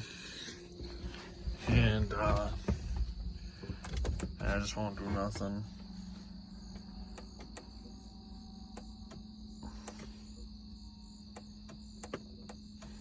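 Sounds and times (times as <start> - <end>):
crickets chirping: 0.0 - 13.0
low even hum: 0.0 - 13.0.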